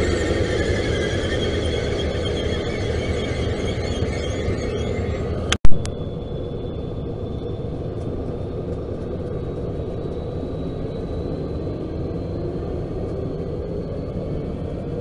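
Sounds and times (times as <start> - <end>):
diesel locomotive rumbling: 0.0 - 15.0
faint high whine: 0.0 - 15.0.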